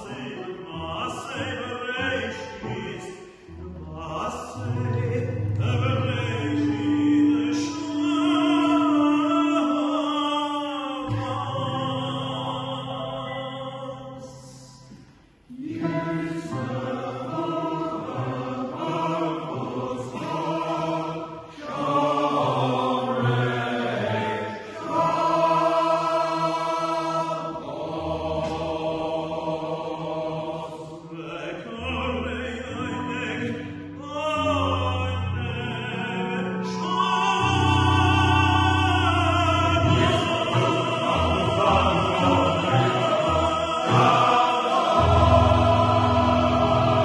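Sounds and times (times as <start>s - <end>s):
male choir singing: 0.0s - 14.9s, 15.5s - 47.0s.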